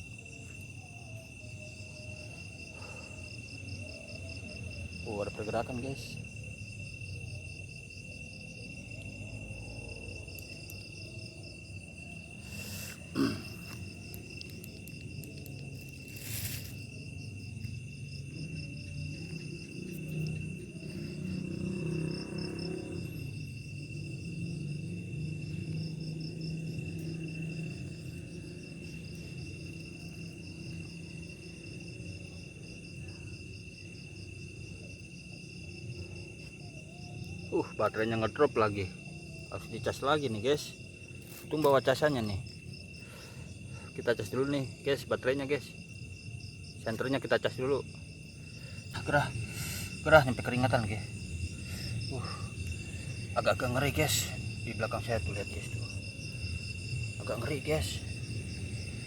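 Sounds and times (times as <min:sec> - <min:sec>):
crickets trilling: 0:00.0 - 0:59.0
insect chirping: 0:00.0 - 0:59.0.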